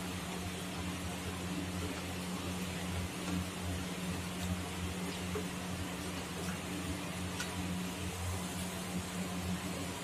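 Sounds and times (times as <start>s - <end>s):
chicken sizzling in hot fat: 0.0s - 10.0s
steady low hum: 0.0s - 10.0s.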